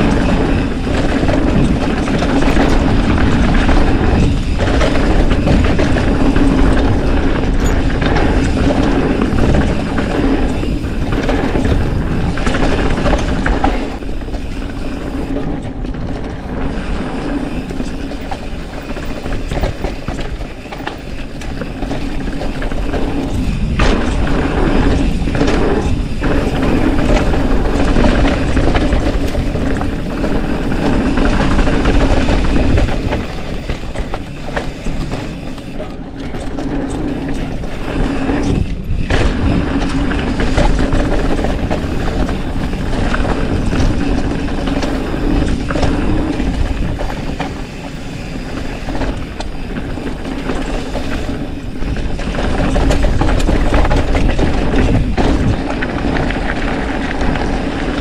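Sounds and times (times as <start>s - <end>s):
bike rattling and knocking: 0.0s - 58.0s
tyre noise on dirt: 0.0s - 58.0s
wind buffeting microphone: 0.0s - 58.0s.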